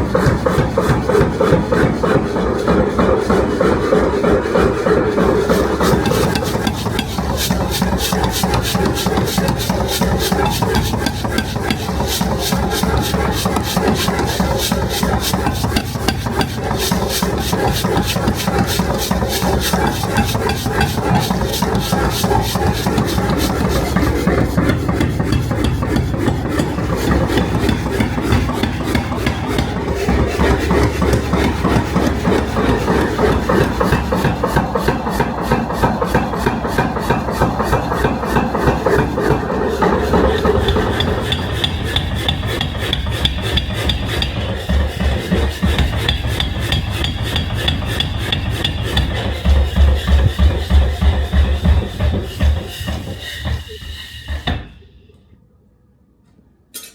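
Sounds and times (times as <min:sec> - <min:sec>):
abrasive tool rasping metal: 0:00.0 - 0:54.8
low machine hum: 0:01.9 - 0:53.8.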